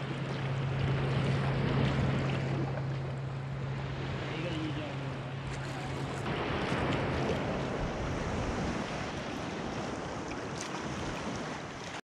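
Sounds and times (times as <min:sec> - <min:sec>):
wind buffeting microphone: 0:00.0 - 0:11.7
sea water lapping and sloshing: 0:00.0 - 0:12.0.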